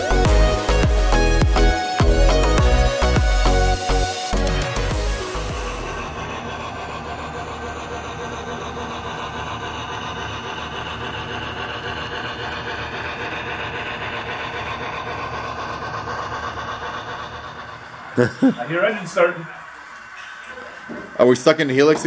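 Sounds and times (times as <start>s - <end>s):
model steam locomotive running: 0.0s - 22.0s.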